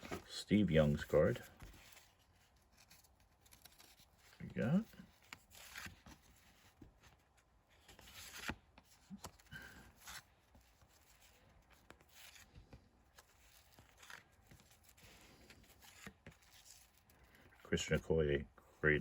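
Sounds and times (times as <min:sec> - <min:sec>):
card brushing: 0:00.9 - 0:18.0
paper cards sliding and clicking: 0:00.9 - 0:18.0.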